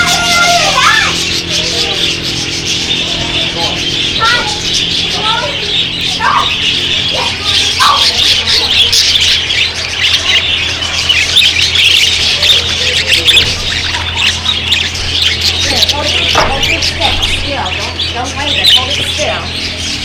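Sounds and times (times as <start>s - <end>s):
parakeets chattering and squawking: 0.0s - 20.0s
steady low hum: 0.0s - 20.0s.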